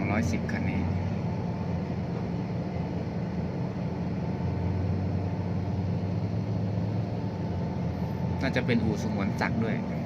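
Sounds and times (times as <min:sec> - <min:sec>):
diesel truck engine droning: 0:00.0 - 0:10.0.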